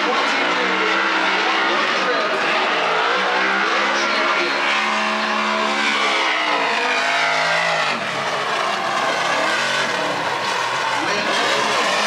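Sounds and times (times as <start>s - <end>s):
car engines revving hard: 0.0s - 12.0s
tyre squeal: 1.2s - 12.0s.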